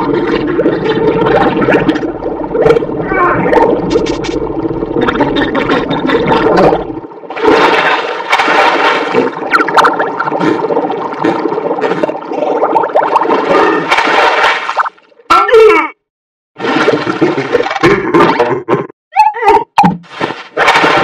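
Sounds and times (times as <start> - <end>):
cartoon flushing water: 0.0 - 15.7, 16.6 - 18.5.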